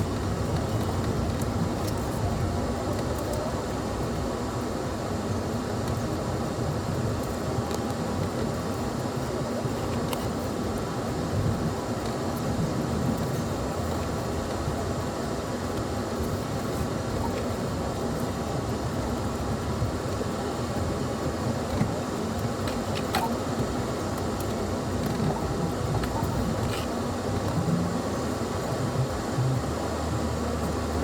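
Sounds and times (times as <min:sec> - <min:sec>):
engine and tyre rumble: 0:00.0 - 0:31.0.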